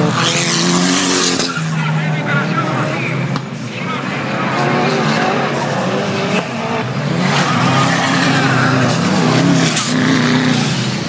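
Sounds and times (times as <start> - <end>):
race vehicle engines revving: 0.0 - 11.0.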